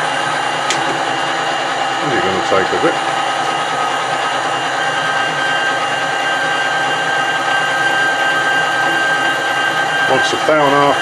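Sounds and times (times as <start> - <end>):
metal lathe whining: 0.0 - 11.0.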